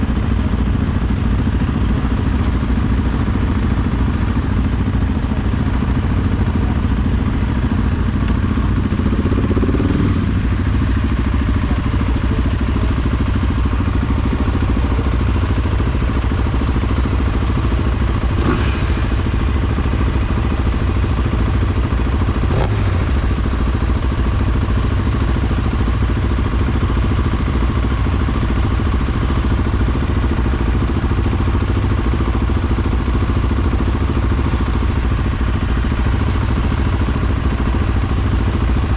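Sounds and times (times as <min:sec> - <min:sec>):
vehicle engine running: 0:00.0 - 0:38.9
vehicle rattling: 0:07.7 - 0:38.9.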